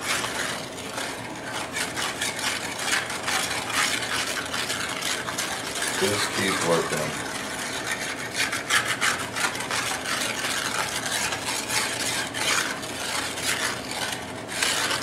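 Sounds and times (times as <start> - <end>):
metal spatula scraping a pan: 0.0 - 15.0.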